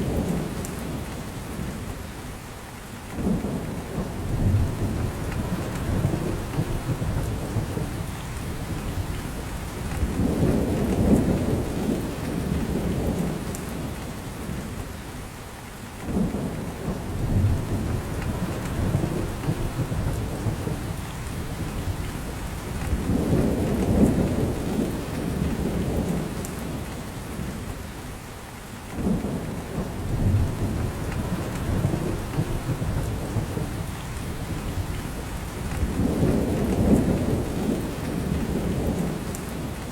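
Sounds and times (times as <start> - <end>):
rain dripping from branches: 0.0 - 39.9.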